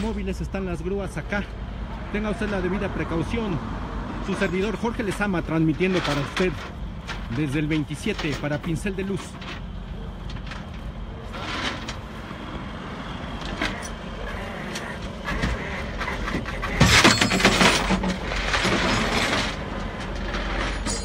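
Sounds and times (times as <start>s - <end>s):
highway traffic noise: 0.0s - 21.0s
vehicle engines humming: 0.0s - 21.0s.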